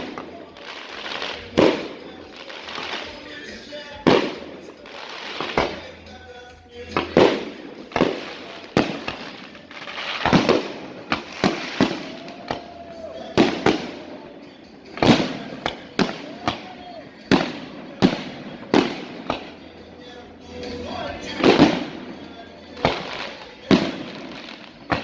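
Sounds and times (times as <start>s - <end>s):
loud sharp echoing bangs: 0.0s - 6.1s, 6.9s - 25.0s.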